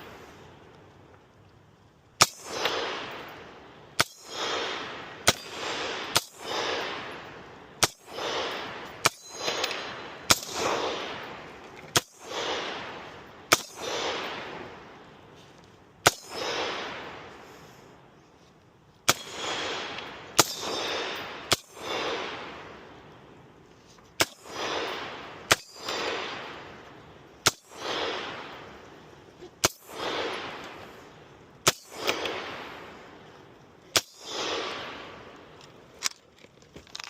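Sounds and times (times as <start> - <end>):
firearm shots echoing: 2.2 - 15.2, 16.0 - 17.4, 19.0 - 23.3, 24.2 - 35.9.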